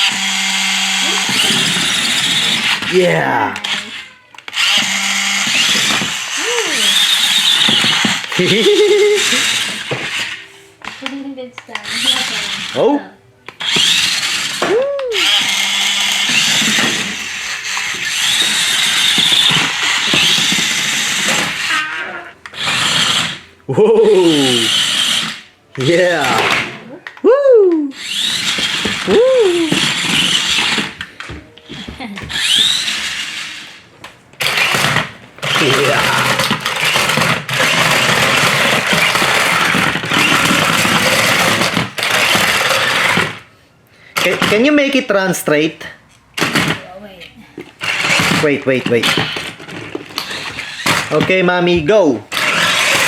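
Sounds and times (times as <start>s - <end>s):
toy car electric motors whirring: 0.0s - 27.2s, 27.8s - 43.5s, 46.4s - 47.0s, 47.6s - 53.0s.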